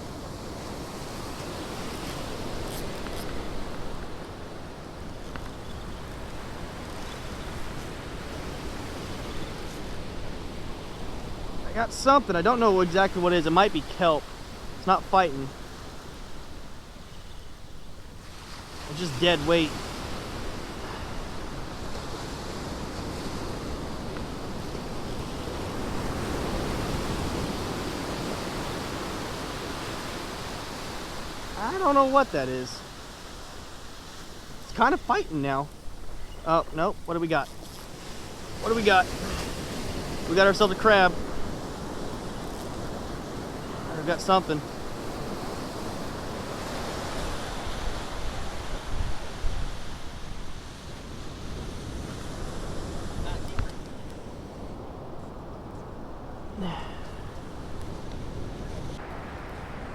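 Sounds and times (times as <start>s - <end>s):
ocean surf breaking: 0.0s - 59.9s
wind on microphone: 0.0s - 59.9s.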